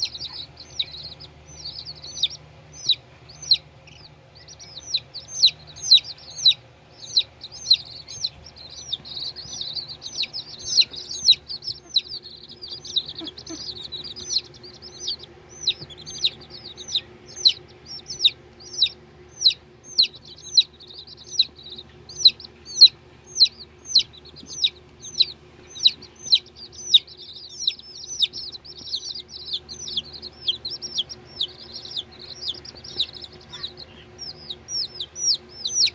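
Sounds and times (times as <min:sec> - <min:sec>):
chicks peeping: 0:00.0 - 0:35.9.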